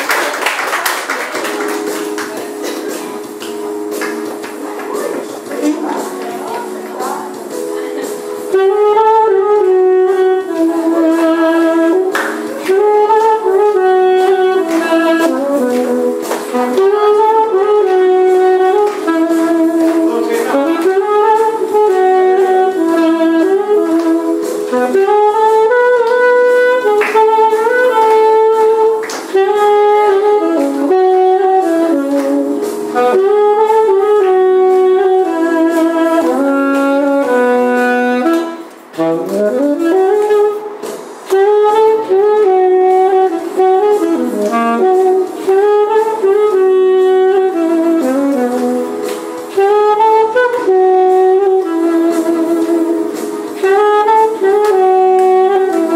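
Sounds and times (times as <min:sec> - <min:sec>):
saxophone melody: 0:00.0 - 0:55.9.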